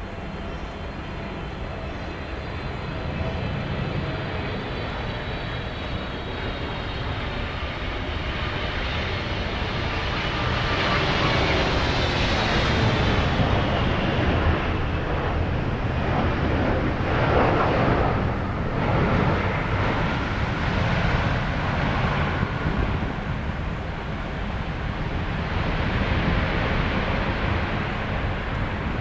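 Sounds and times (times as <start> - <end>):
jet engines roaring: 0.0 - 29.0
wind noise on microphone: 0.0 - 29.0.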